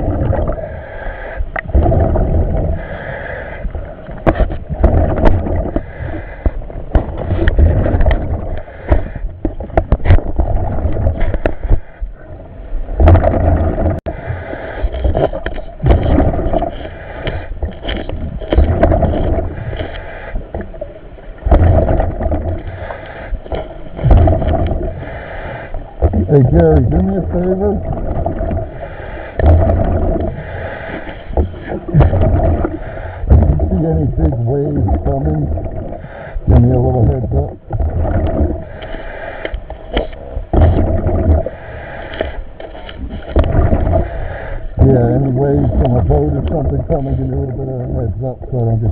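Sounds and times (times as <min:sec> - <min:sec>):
water gurgling and sloshing: 0:00.0 - 0:48.9.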